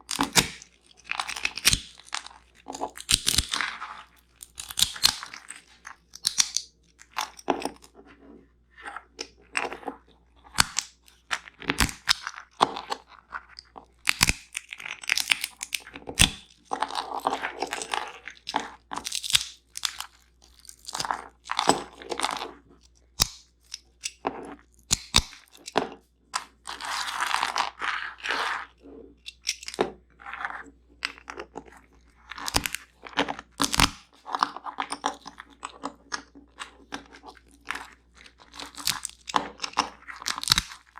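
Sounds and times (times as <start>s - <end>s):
nuts and seeds cracking: 0.0s - 7.9s, 10.6s - 22.6s, 23.2s - 25.8s, 29.2s - 29.9s, 31.0s - 40.9s.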